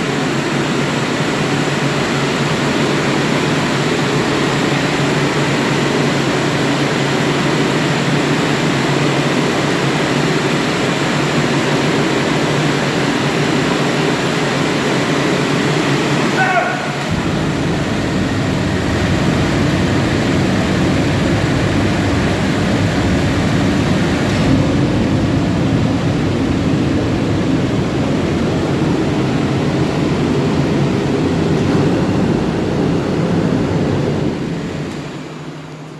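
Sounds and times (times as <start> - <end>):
oil burner fan and flame: 0.0 - 35.9.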